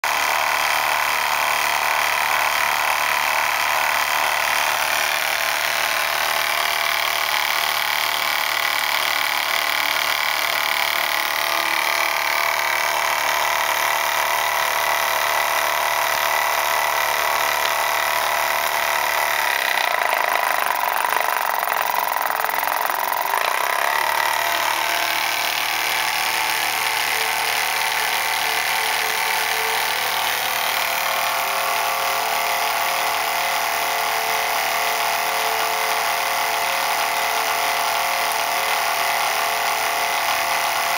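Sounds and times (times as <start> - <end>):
model steam engine running: 0.0 - 40.9.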